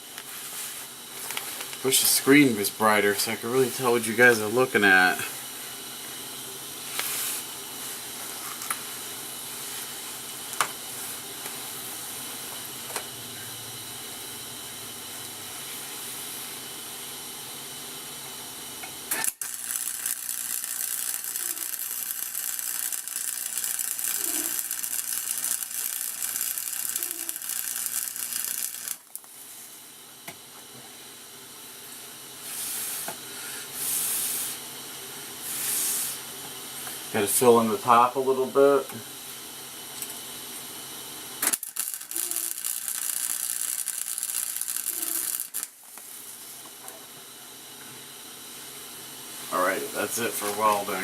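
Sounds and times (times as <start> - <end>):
arc welding crackling sizzle: 0.0 - 51.0.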